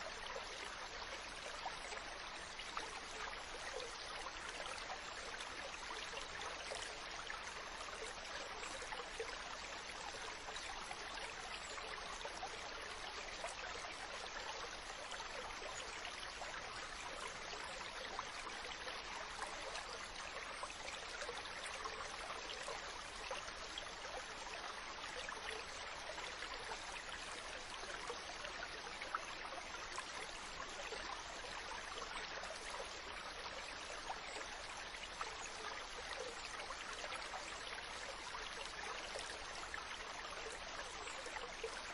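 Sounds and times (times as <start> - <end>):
small stream babbling: 0.0 - 41.9.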